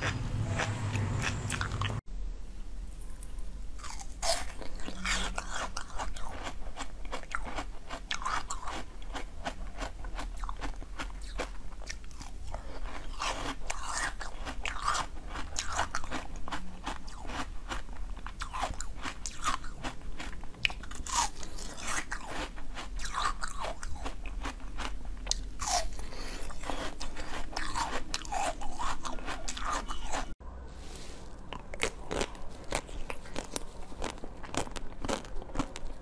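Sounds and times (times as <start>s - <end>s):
crunching and chewing frozen food: 0.0s - 2.0s, 3.8s - 30.4s, 31.5s - 36.0s.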